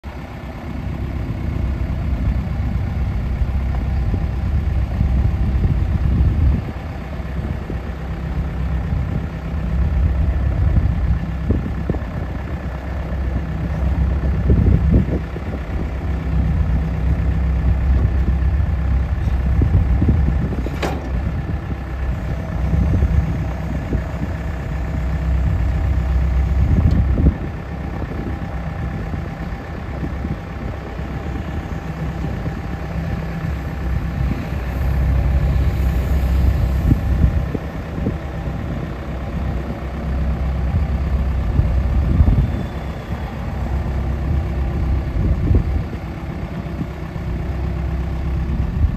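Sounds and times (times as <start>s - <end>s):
skid steer loader engine: 0.0s - 48.9s.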